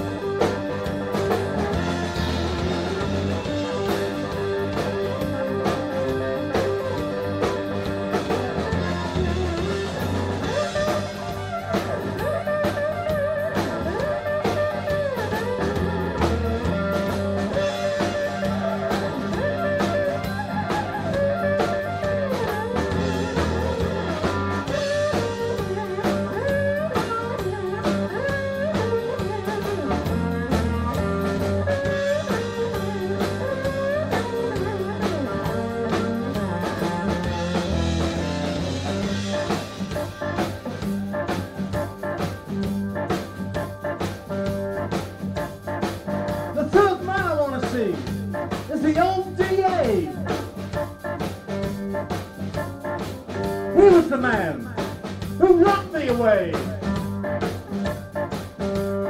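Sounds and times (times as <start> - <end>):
blues band playing: 0.0 - 59.0
electric guitar bending notes: 0.0 - 59.0.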